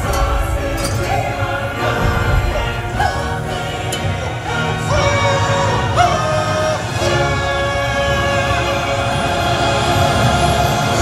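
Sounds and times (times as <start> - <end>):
choir singing over musical backing: 0.0 - 11.0.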